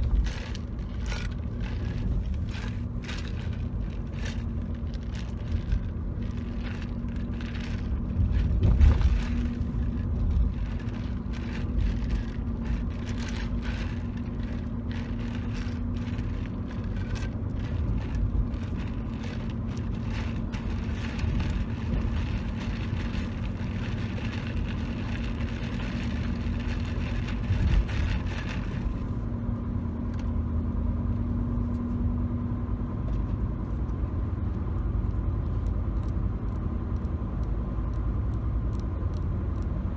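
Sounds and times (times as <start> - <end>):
car road rumble from inside: 0.0 - 39.9.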